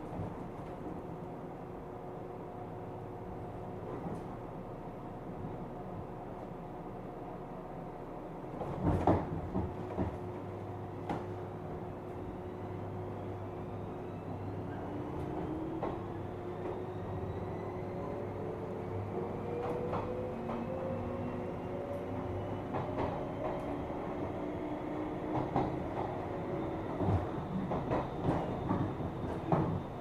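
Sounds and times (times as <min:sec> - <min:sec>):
low train rumble: 0:00.0 - 0:30.0.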